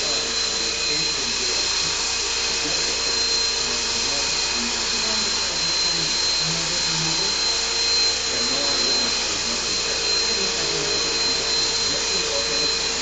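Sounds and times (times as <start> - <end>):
high motor whine: 0.0 - 13.0
rotor blades whirring: 0.0 - 13.0.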